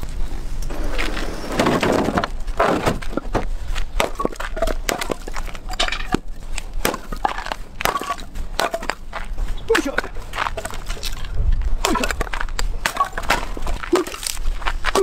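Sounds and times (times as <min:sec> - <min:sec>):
wheelbarrow rolling: 0:00.6 - 0:15.0
axe splitting logs: 0:01.6 - 0:15.0
split wood clattering: 0:01.6 - 0:15.0.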